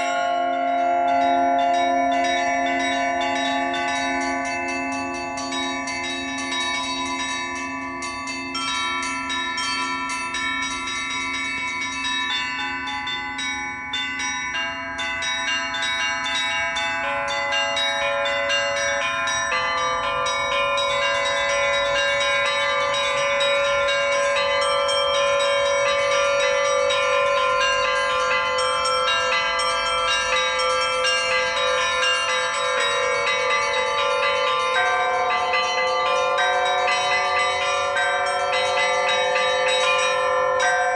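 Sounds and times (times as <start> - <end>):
large bells ringing: 0.0 - 40.9
small bells struck quickly: 1.2 - 40.9.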